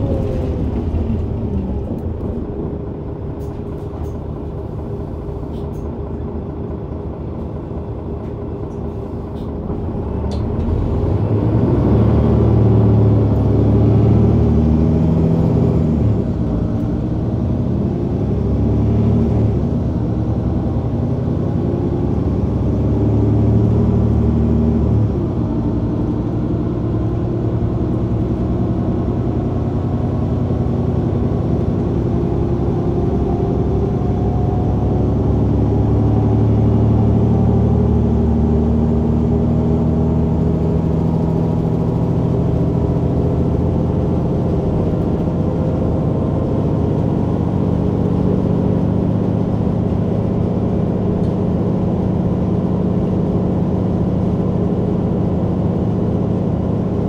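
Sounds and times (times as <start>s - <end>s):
bus engine shifting gears: 0.0s - 57.0s.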